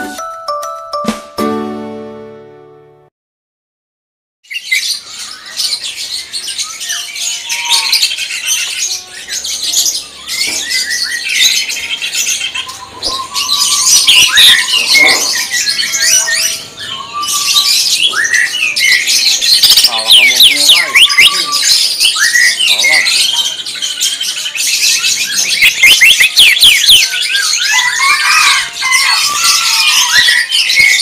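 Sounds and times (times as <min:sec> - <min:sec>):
bird singing chirps and trills: 0:04.5 - 0:31.0.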